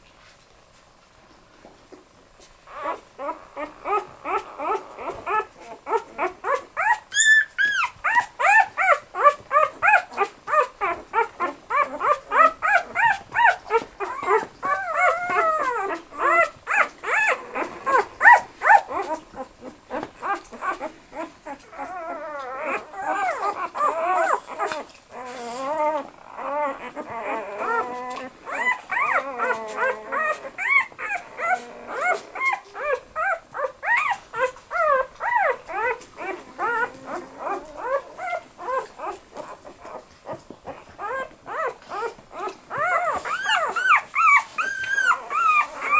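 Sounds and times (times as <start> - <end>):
puppies whining and squeaking: 2.6 - 45.9.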